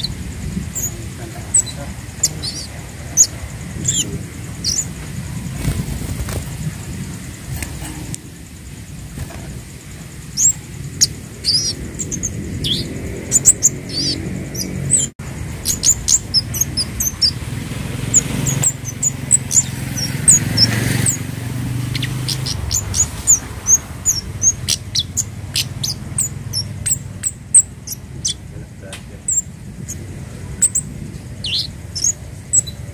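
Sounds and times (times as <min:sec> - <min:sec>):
bird high thin chirps: 0:00.0 - 0:05.7, 0:10.2 - 0:17.4, 0:18.0 - 0:32.9
steady low hum: 0:00.0 - 0:32.9.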